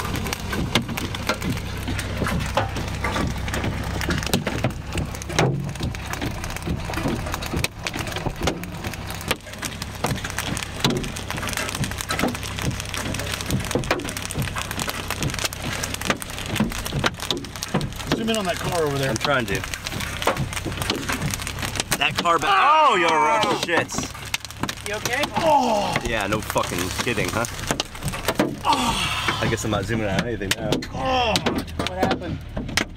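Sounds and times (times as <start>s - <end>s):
hail hammering car roof: 0.0s - 32.9s
low steady rumble: 0.0s - 32.9s.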